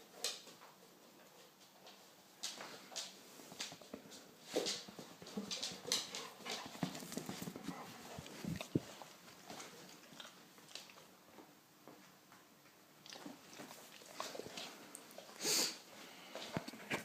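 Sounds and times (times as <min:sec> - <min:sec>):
animals scuffling and mouthing: 0:00.3 - 0:11.6, 0:13.0 - 0:17.0.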